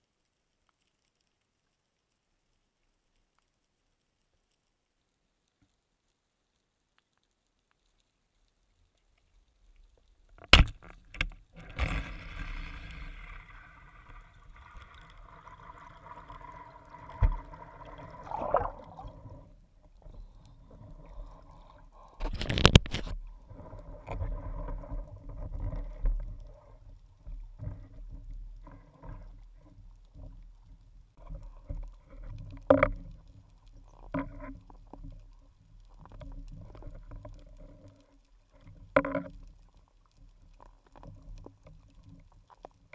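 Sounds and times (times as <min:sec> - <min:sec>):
muffled underwater water movement: 0:00.0 - 0:42.9.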